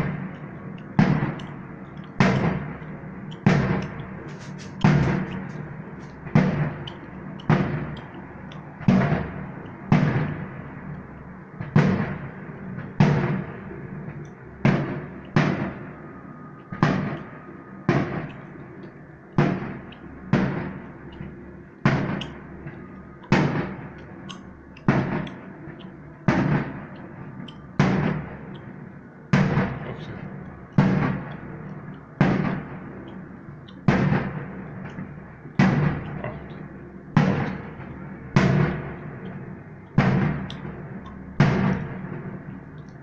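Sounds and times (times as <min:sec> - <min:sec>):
fireworks bursting: 0:00.0 - 0:08.2, 0:08.8 - 0:10.8, 0:16.7 - 0:42.8.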